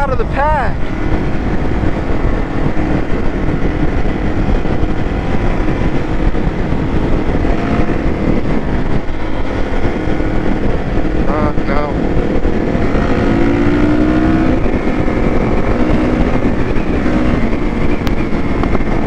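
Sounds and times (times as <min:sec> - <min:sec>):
motorcycle engine running: 0:00.0 - 0:19.0
wind noise: 0:00.0 - 0:19.0.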